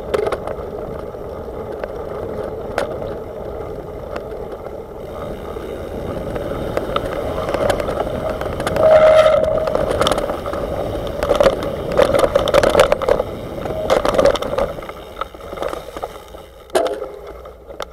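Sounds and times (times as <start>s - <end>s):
bike rattles and knocks: 0.0s - 17.9s
wind and tyres rushing: 0.0s - 17.9s
droning tone: 2.5s - 17.9s.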